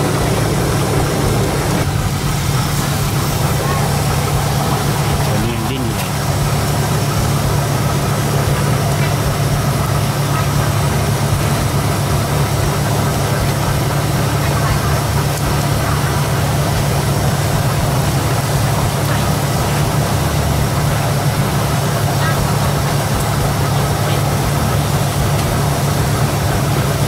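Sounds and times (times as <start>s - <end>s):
even hiss: 0.0s - 27.0s
low mechanical drone: 0.0s - 27.0s.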